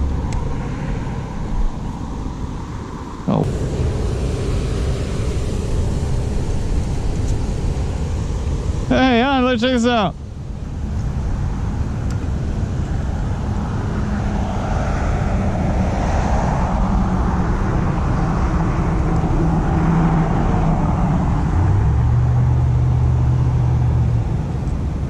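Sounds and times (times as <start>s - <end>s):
low engine hum: 0.0s - 25.0s
vehicle rushing noise: 0.0s - 25.0s.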